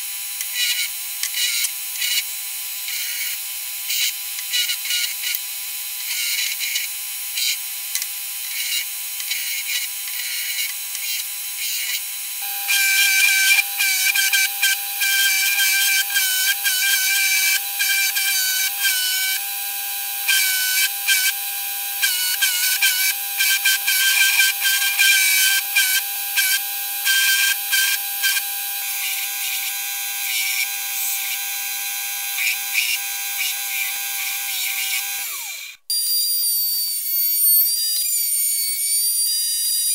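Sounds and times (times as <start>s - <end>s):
belt grinder whining: 0.0s - 39.9s.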